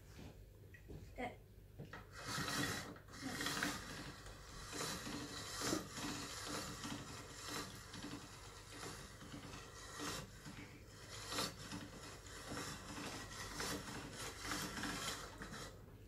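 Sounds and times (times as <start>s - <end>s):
pasta machine grinding whir: 1.9s - 16.0s.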